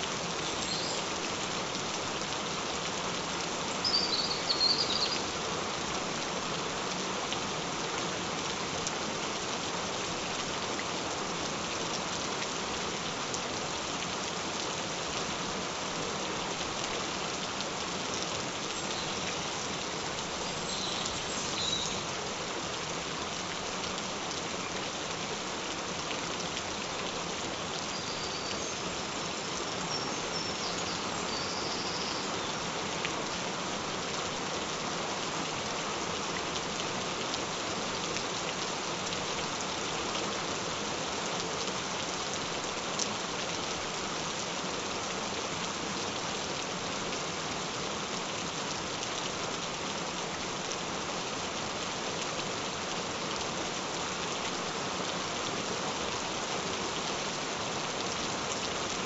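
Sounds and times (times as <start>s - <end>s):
gentle rain falling: 0.0s - 59.0s.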